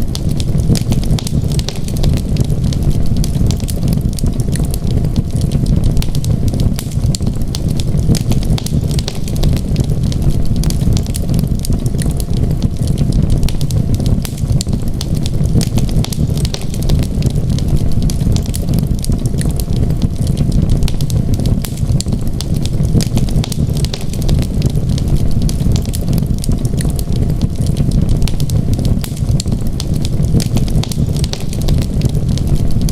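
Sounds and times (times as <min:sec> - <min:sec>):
low fire rumble: 0:00.0 - 0:32.9
wood fire crackling: 0:00.0 - 0:32.9
small irregular pops: 0:00.1 - 0:32.9.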